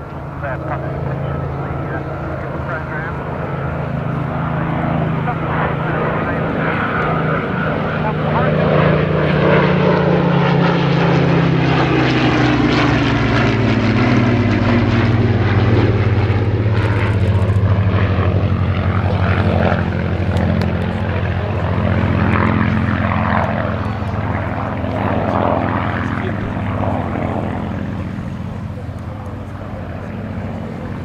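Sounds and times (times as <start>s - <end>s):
propeller aircraft engines droning: 0.0s - 31.0s.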